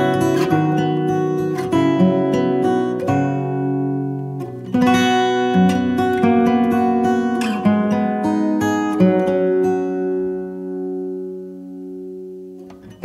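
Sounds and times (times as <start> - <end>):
acoustic guitar plucking: 0.0 - 13.0.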